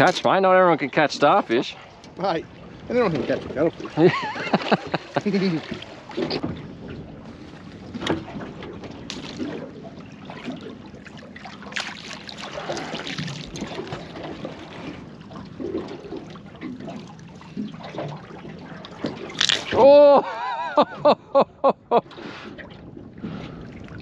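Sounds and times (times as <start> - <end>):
water lapping around boat: 0.0 - 24.0.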